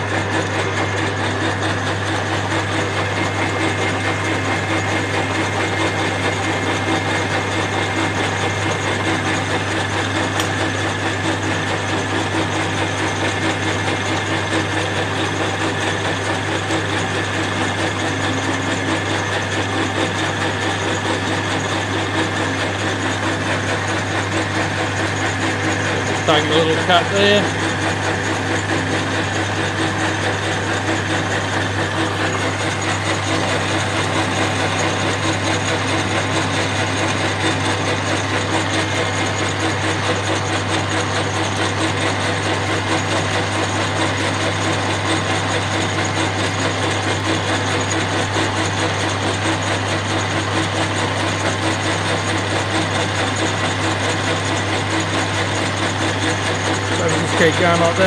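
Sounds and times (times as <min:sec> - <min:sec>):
lathe tool cutting metal: 0:00.0 - 0:58.0
metal lathe humming: 0:00.0 - 0:58.0.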